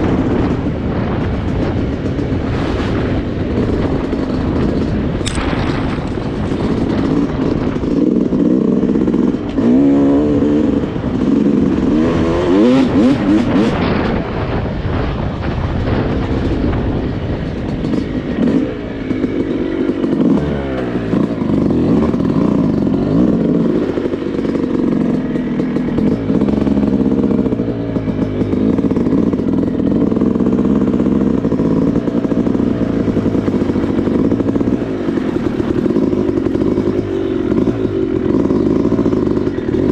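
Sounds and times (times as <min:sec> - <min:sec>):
dirt bike engine revving: 0:00.0 - 0:15.2, 0:15.9 - 0:39.9.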